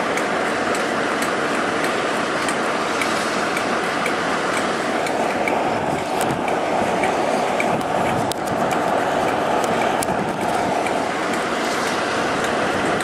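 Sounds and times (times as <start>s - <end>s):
diesel train passing: 0.0s - 13.0s
faint regular ticking: 0.1s - 11.5s.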